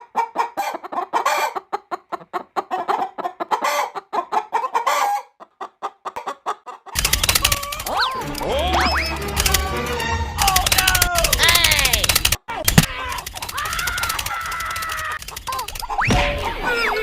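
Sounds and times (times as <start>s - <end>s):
chickens clucking: 0.0s - 11.5s, 12.3s - 17.0s.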